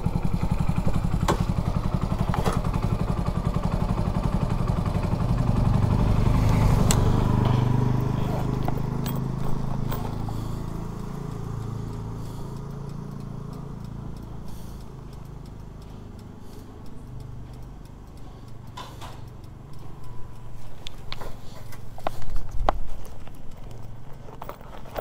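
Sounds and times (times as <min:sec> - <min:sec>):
motorbike engine running: 0:00.0 - 0:21.2.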